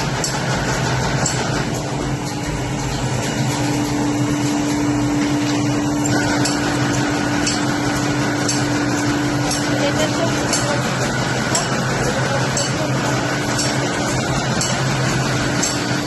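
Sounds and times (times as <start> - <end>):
machine mechanical hum: 0.0 - 16.0.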